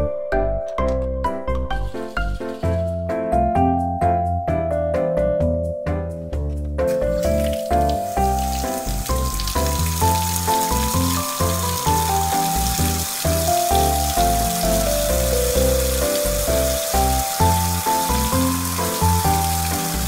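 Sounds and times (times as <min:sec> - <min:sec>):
simple melody over bass line: 0:00.0 - 0:20.0.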